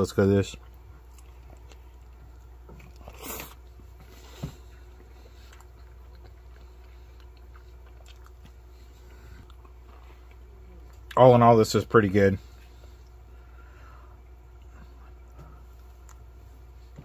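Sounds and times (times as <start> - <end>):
quiet chewing: 0.5 - 11.2, 12.4 - 17.0.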